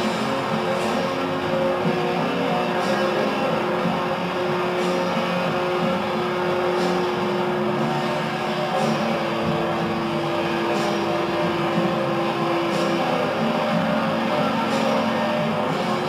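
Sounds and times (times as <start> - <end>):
droning ambient music: 0.0 - 16.0.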